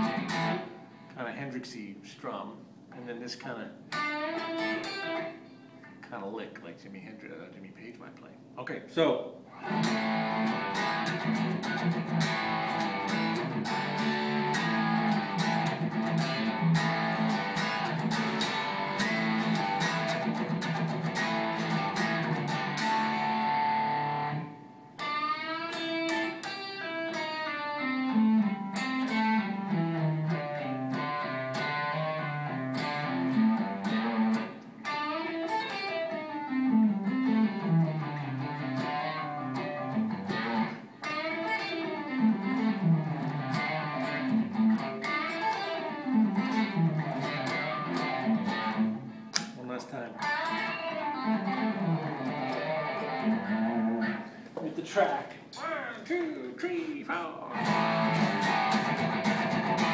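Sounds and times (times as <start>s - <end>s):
electric guitar playing rock riff: 0.0s - 1.1s, 3.9s - 5.8s, 9.5s - 54.4s, 57.5s - 59.9s.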